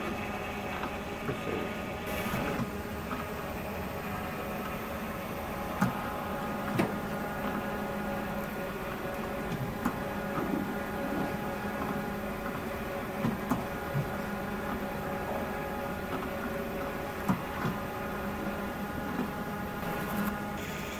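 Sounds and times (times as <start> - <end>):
recycling machine humming: 0.0 - 20.9.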